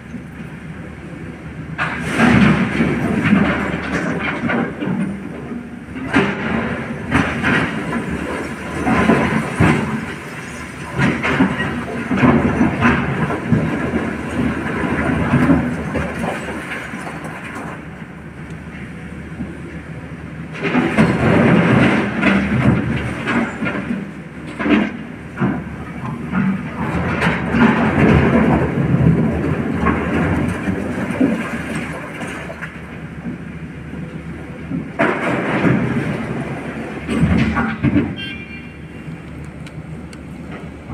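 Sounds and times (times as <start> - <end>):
excavator running: 0.0 - 40.9.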